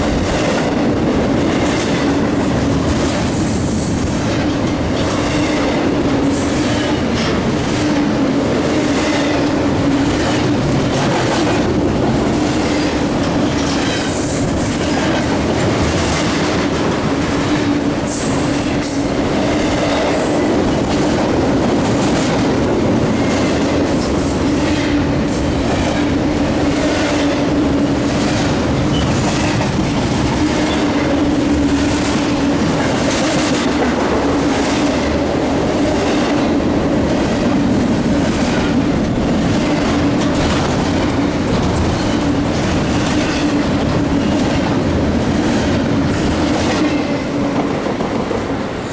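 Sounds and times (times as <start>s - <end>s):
freight train rolling hum: 0.0s - 48.9s.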